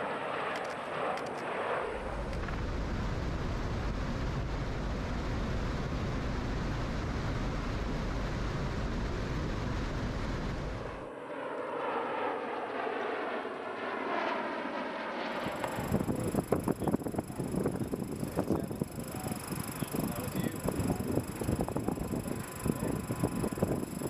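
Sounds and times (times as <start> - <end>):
aircraft rotor and engine noise: 0.0 - 24.0
distant aircraft sound: 0.0 - 24.0.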